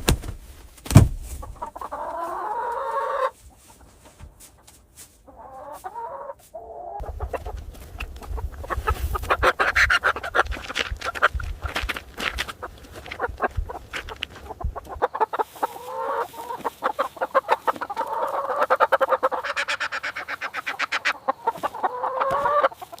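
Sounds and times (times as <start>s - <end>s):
chickens clucking: 1.3s - 23.0s.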